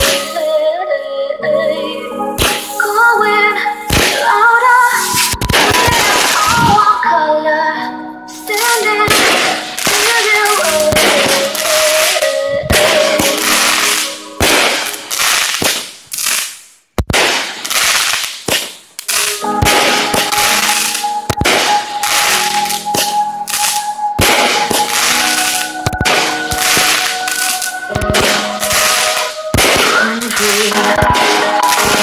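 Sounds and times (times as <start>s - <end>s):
fireworks crackling: 0.0s - 0.5s, 2.4s - 7.0s, 8.4s - 32.0s
fireworks sharp bangs: 2.4s - 2.9s, 3.9s - 4.4s, 5.0s - 7.0s, 8.6s - 32.0s.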